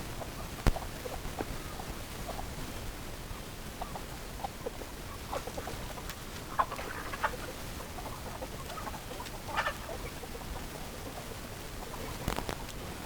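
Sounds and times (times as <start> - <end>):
chickens clucking: 0.0 - 13.0
steady hiss: 0.0 - 13.0.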